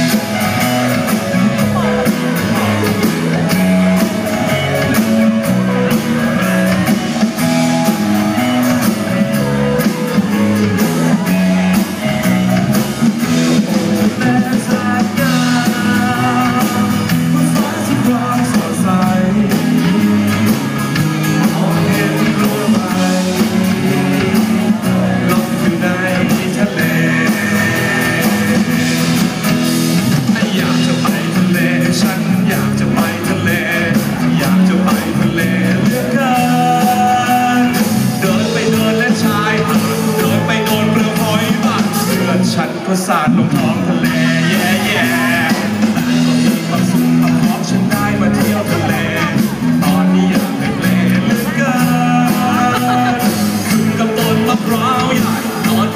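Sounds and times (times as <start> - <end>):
live rock band playing: 0.0 - 55.9
person singing: 0.0 - 55.9.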